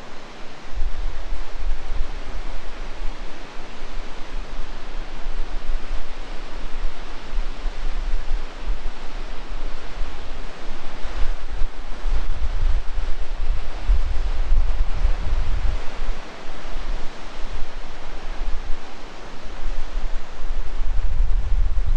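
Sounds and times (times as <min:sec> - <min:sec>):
wind buffeting microphone: 0:00.6 - 0:21.9.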